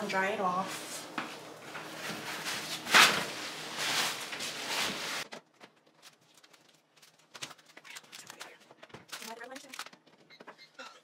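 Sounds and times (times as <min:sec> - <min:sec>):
paper towels rustling: 0:00.4 - 0:09.4.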